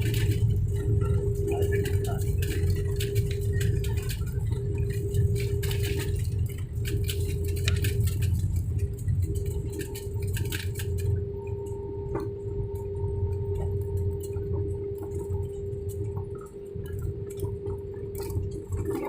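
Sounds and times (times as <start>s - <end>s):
airplane cabin engine rumble: 0.0s - 19.0s
constant hum tone: 0.0s - 19.0s.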